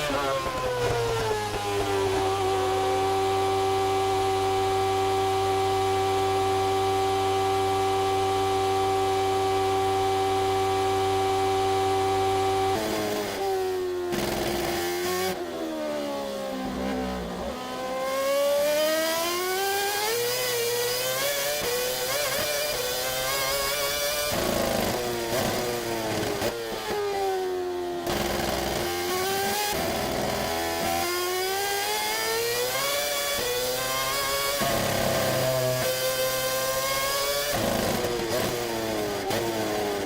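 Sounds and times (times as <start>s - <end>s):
racing car engine: 0.0s - 40.0s.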